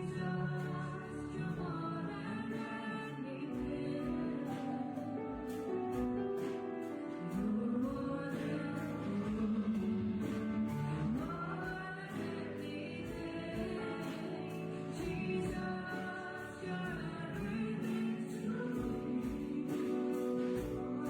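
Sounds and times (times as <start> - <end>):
voices singing: 0.0 - 5.2, 6.4 - 21.0
strummed guitar: 0.0 - 21.0.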